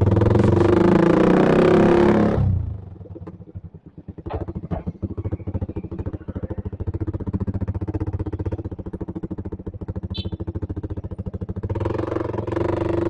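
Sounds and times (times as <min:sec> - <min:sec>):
motorcycle idling with exhaust popping: 0:02.4 - 0:13.0.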